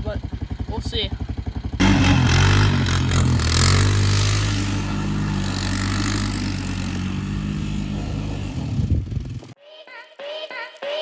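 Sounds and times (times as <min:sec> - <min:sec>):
atv engine running: 0:00.0 - 0:09.6.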